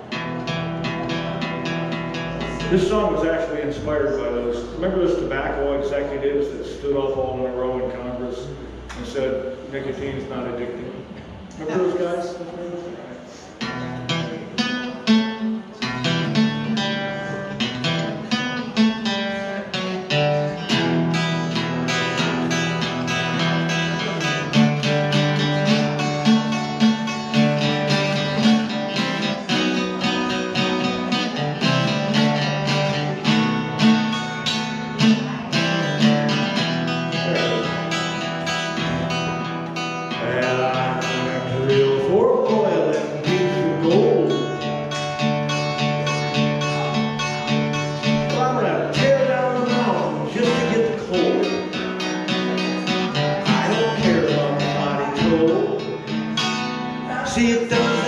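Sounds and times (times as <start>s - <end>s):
guitar strummed chords: 0.0s - 9.7s, 13.5s - 58.0s.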